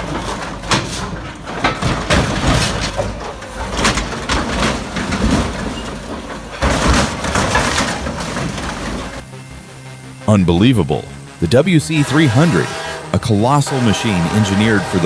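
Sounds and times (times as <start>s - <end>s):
metal crunching and banging: 0.0s - 15.0s.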